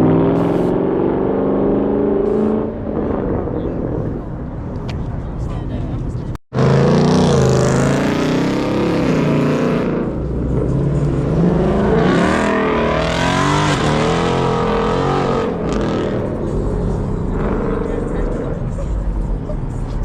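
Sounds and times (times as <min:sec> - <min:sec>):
car engine revving: 0:00.0 - 0:04.5, 0:06.5 - 0:20.0.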